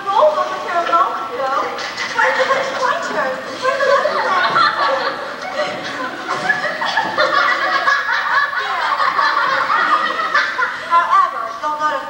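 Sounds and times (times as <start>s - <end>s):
children giggling and chattering: 0.0s - 11.6s.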